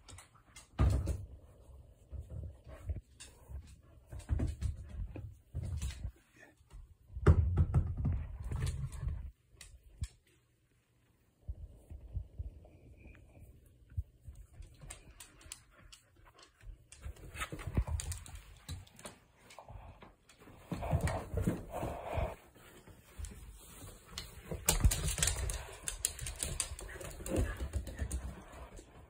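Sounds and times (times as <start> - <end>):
dogs scuffling and thumping: 0.0 - 6.9, 11.8 - 29.0.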